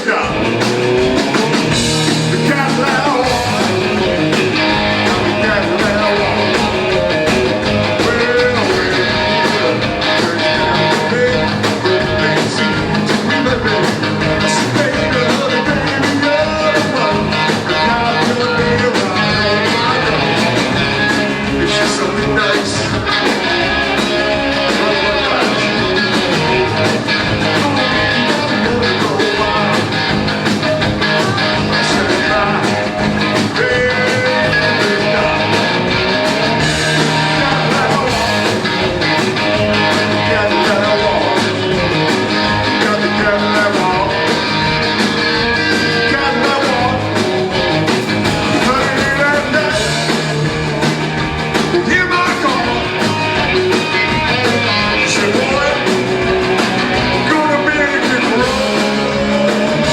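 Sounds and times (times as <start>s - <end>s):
drum beat: 0.0s - 59.9s
rock and roll band playing: 0.0s - 59.9s.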